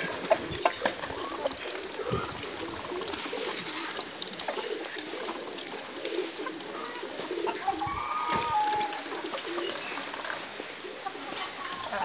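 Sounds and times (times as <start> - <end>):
ducks and chickens calling: 0.0 - 12.0.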